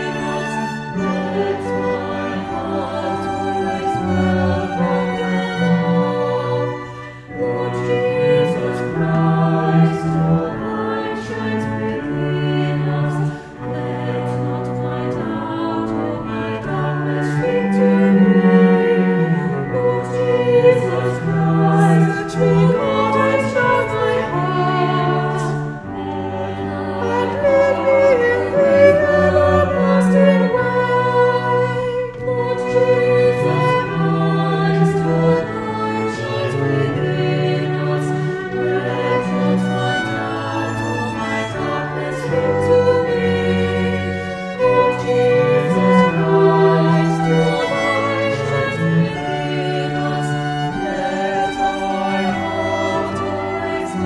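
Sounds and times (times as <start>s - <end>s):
choir singing a chant: 0.0s - 54.0s
sustained instrumental accompaniment: 0.0s - 54.0s.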